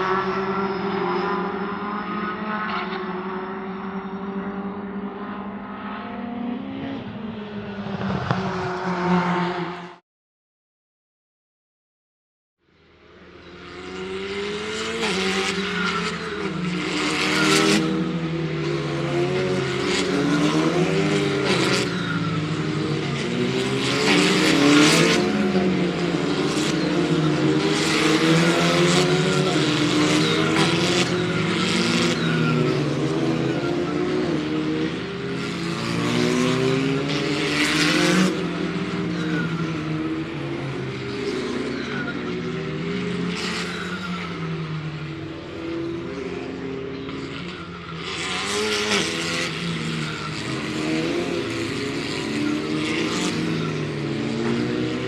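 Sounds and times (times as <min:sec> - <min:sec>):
racing car engines revving: 0:00.0 - 0:10.0, 0:13.1 - 0:55.0.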